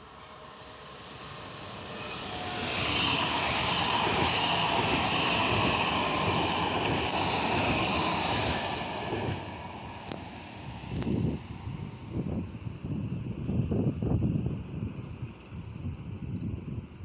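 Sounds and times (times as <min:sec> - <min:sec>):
rushing hiss of passing train: 0:00.0 - 0:16.1
train wheels rumbling on rails: 0:00.0 - 0:16.9.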